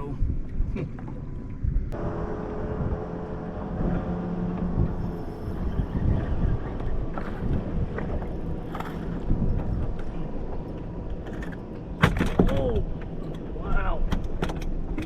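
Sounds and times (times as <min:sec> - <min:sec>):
low rumbling noise: 0:00.0 - 0:15.0
boat motor humming: 0:00.3 - 0:15.0.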